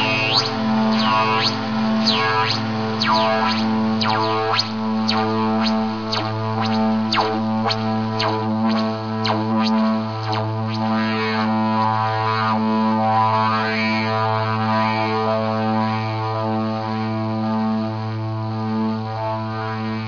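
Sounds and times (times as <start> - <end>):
low droning music: 0.0 - 20.0.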